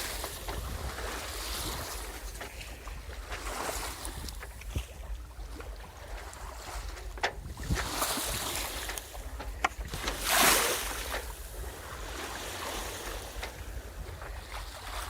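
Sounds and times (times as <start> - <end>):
water splashing along hull: 0.0 - 15.0
wave splash: 0.0 - 15.0
wind rumbling on microphone: 0.0 - 15.0.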